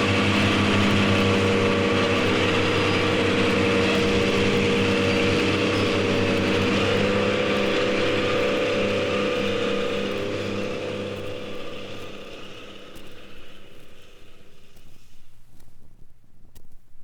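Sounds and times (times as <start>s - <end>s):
engine running: 0.0s - 15.1s.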